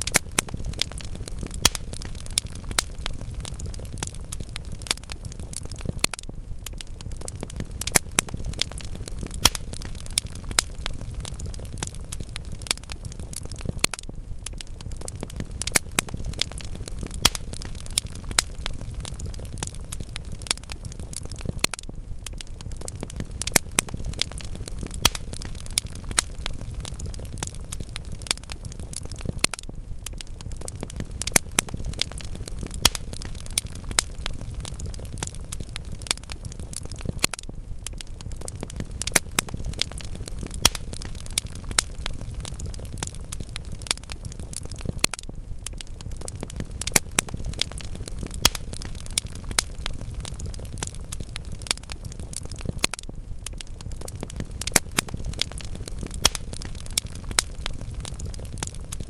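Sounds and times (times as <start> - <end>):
flame rumbling: 0.0 - 59.0
wood fire crackling and popping: 0.0 - 59.0.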